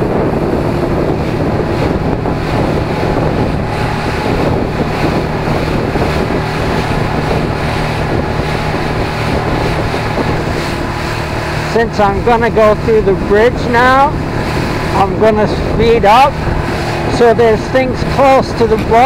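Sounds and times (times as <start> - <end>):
outboard motor running: 0.0 - 19.0
water rushing along hull: 0.0 - 19.0
wind buffeting microphone: 0.0 - 19.0.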